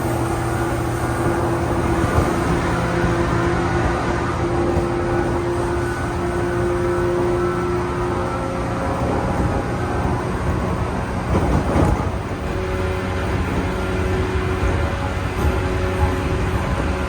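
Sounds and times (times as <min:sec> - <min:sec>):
electric train humming and whining: 0:00.0 - 0:17.0.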